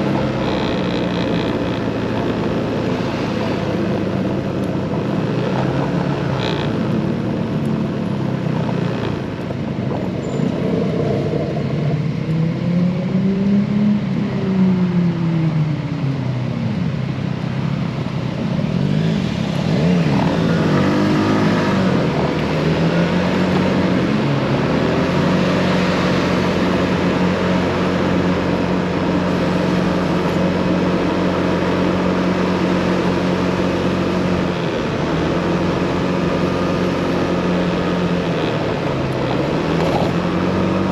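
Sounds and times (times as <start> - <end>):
motorcycle engine revving: 0.0 - 14.3, 18.4 - 40.9.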